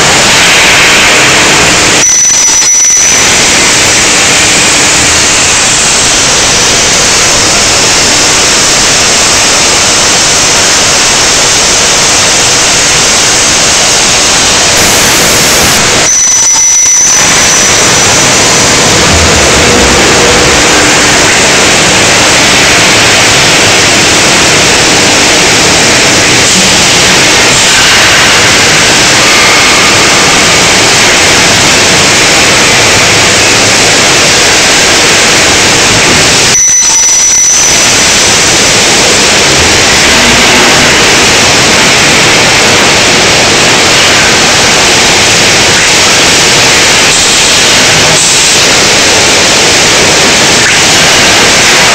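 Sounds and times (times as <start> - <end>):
steel tube mill running: 0.0 - 51.9.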